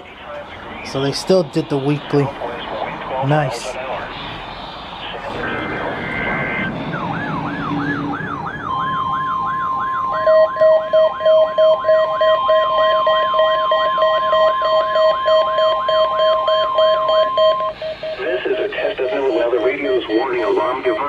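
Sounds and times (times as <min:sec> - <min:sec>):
steady warning alarm tone: 0:00.6 - 0:21.0
siren-like sweeping alarm: 0:00.7 - 0:21.0
lower beeping alarm: 0:04.0 - 0:21.0.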